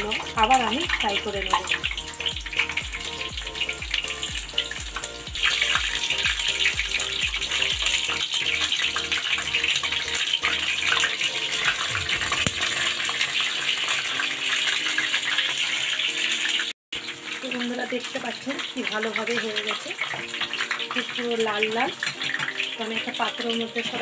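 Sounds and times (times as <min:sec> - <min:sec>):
fritters deep-frying in hot oil: 0:00.0 - 0:24.0.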